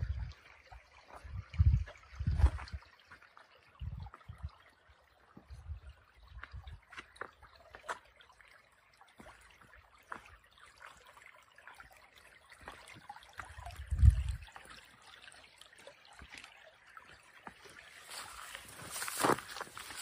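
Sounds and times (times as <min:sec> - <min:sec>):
creek trickling over stones: 0:00.0 - 0:20.0.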